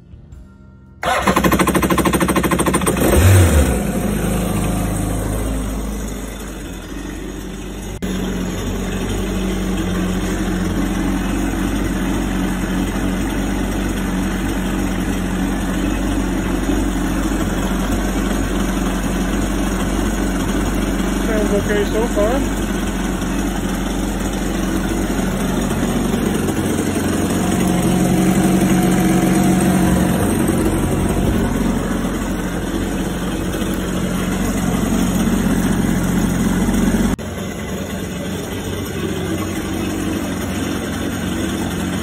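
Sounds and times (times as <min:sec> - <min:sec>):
jet ski engine starting and idling: 0:01.0 - 0:42.0.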